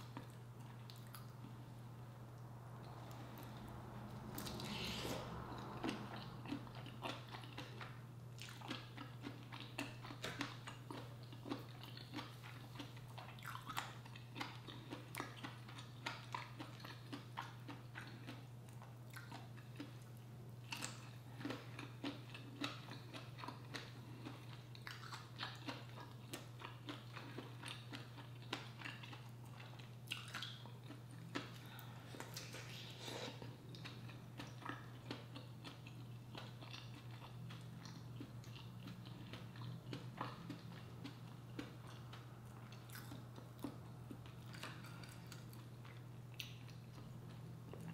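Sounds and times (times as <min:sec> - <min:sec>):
person chewing with mouth clicks: 0:00.0 - 0:01.6, 0:04.4 - 0:47.9
steady low hum: 0:00.0 - 0:47.9.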